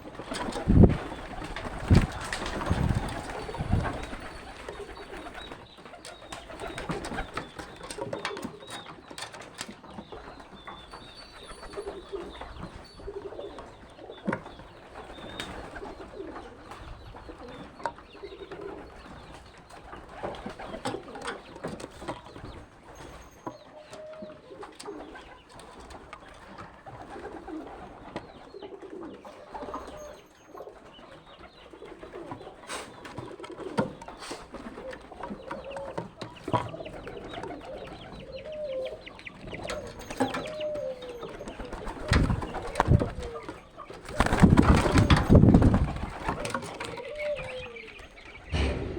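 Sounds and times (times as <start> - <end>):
birds cooing: 0.0 - 48.9.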